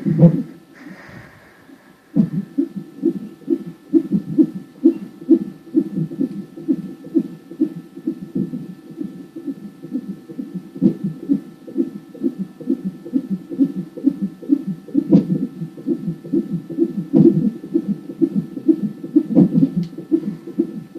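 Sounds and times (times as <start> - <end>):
fetal heartbeat whooshing: 0.0 - 20.9.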